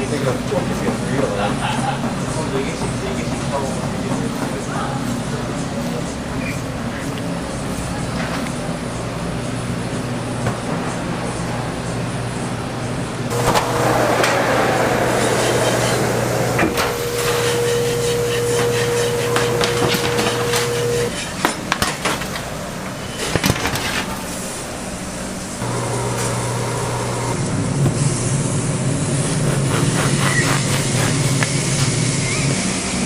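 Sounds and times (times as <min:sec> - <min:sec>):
mechanical hum with held tone: 0:00.0 - 0:33.0.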